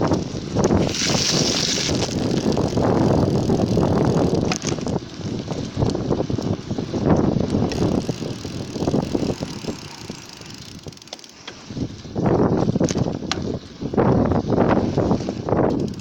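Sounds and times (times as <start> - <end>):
bicycle rattling: 0.0 - 16.0
bicycle tyre noise: 0.0 - 16.0.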